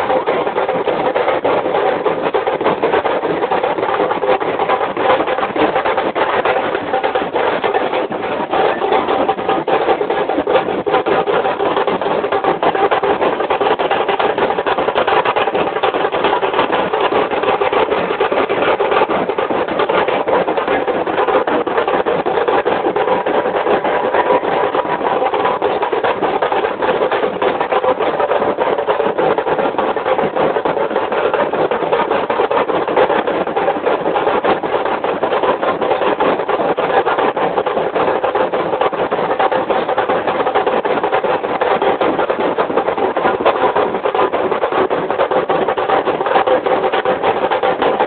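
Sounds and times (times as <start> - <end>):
drums beaten rapidly: 0.0 - 48.0
large crowd noise: 0.0 - 48.0.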